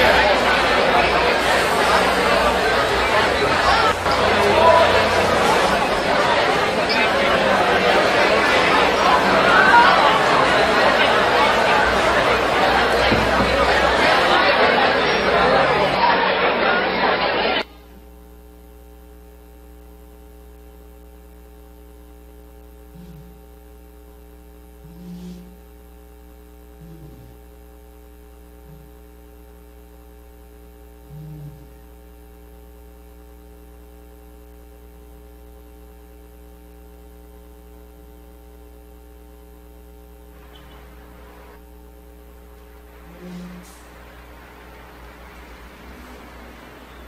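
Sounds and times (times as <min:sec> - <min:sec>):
electrical mains hum: 0:00.0 - 0:47.0.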